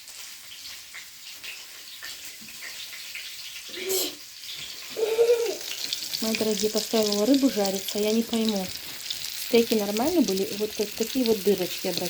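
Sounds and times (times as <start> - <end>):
fish sizzling in oil: 0.0 - 12.0
small crackles: 0.0 - 12.0.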